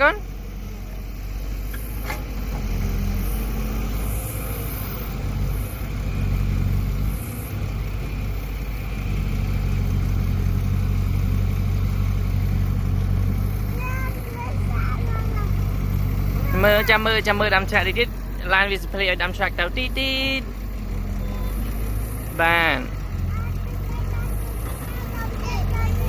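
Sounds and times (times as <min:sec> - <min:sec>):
excavator engine droning: 0:00.0 - 0:26.0.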